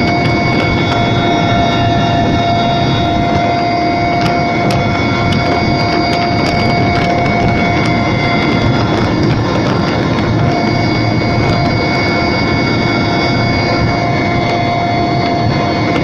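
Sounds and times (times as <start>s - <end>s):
aircraft engine and airflow noise: 0.0s - 16.0s
whining engine tones: 0.0s - 16.0s.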